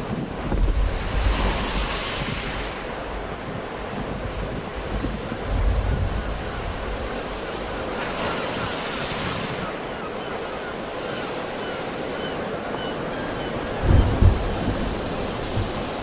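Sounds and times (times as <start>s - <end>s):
sea surf washing: 0.0s - 16.0s
wind buffeting the microphone: 0.0s - 16.0s.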